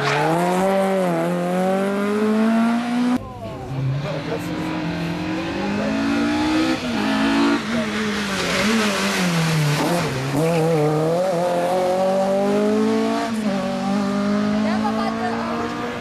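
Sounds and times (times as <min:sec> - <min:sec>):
rally car passing at speed: 0:00.0 - 0:16.0.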